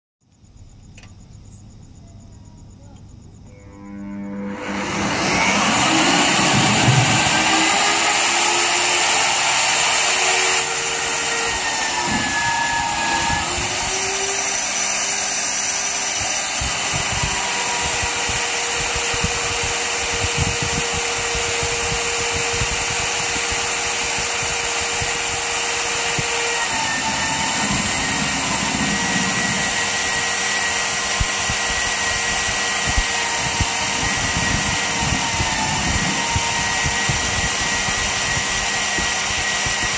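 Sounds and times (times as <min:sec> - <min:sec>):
drill motor whine: 0:03.4 - 0:39.9
cutter cutting into steel: 0:04.5 - 0:39.9.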